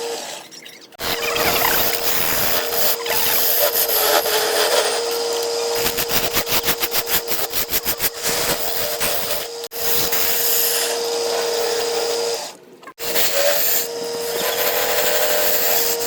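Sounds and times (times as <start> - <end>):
turning tool cutting wood: 0.0 - 16.0
wood lathe motor hum: 1.0 - 16.0.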